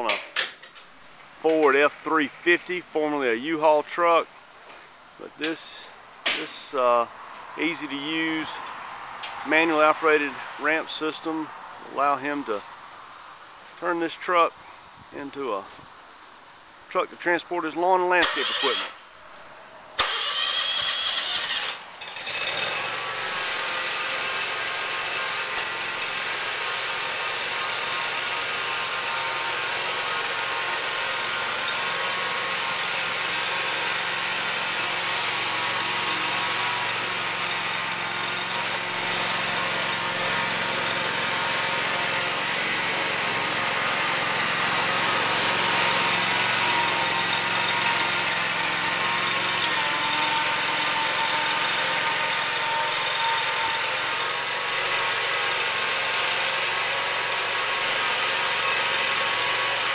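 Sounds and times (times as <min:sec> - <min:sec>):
riding mower engine: 0:00.0 - 0:15.8, 0:16.8 - 0:59.9.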